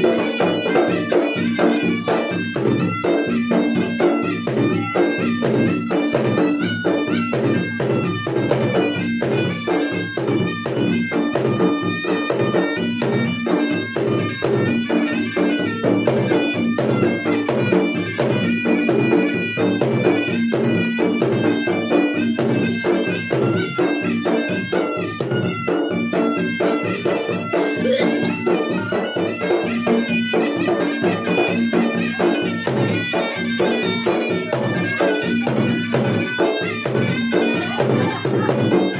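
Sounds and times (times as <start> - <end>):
rapid drumming: 0.0 - 38.9.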